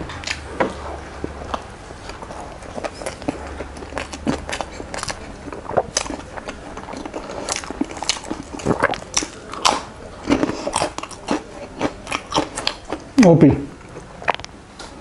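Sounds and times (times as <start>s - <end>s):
person chewing food: 0.0s - 13.2s, 13.8s - 15.0s
mouth clicks and crunches: 0.0s - 15.0s.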